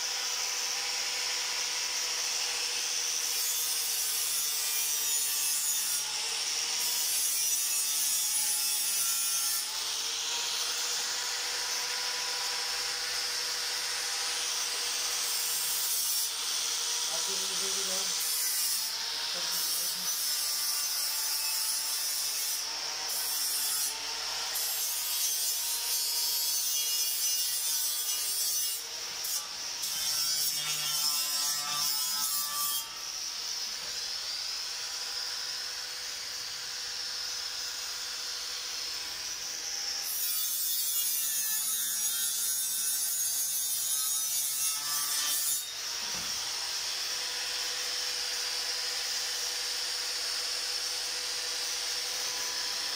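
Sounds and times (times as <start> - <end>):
angle grinder on metal: 0.0 - 52.9.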